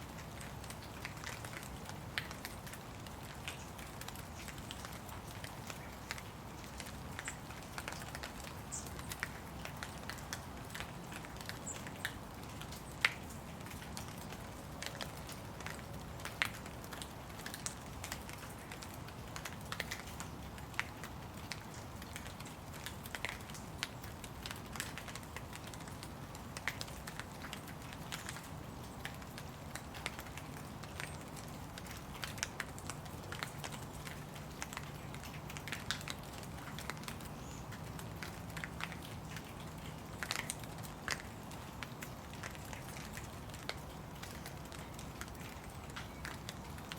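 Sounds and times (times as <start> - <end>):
raindrops pattering and dripping: 0.0 - 46.9.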